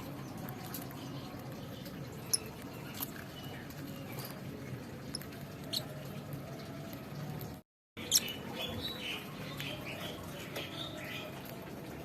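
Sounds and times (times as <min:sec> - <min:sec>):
lovebirds chirping: 0:00.0 - 0:06.8, 0:07.4 - 0:12.0.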